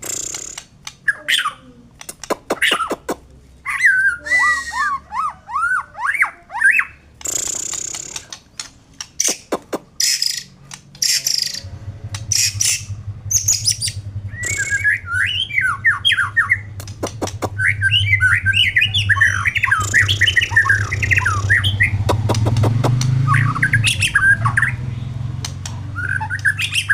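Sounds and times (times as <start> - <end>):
bird singing: 0.0 - 26.9.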